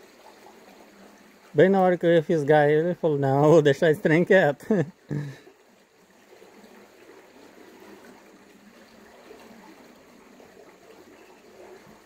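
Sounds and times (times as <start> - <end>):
faint river water trickle: 0.0 - 12.0.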